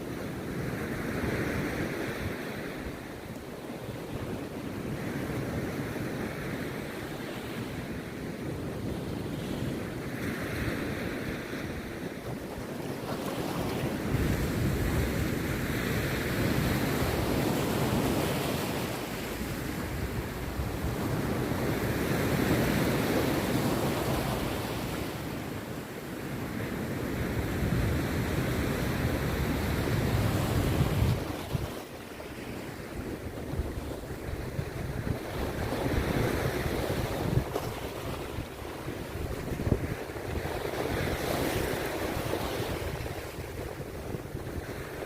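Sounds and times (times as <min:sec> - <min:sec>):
sea surf breaking on a beach: 0:00.0 - 0:45.0.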